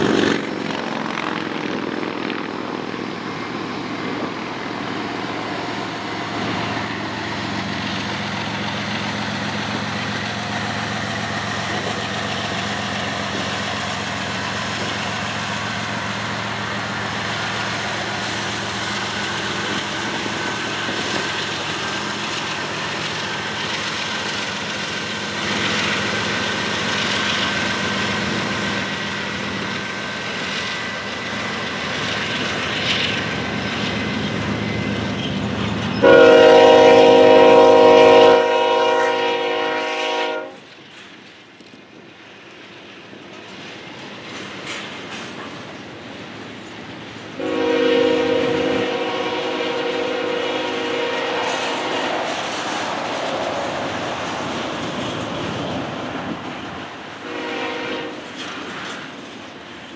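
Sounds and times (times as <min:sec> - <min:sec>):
locomotive engine drone: 0:00.0 - 0:59.9.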